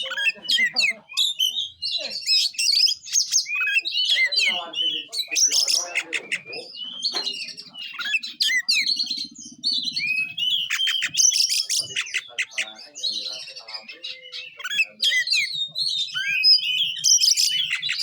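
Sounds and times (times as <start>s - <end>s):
bird singing whistled song: 0.0s - 18.0s.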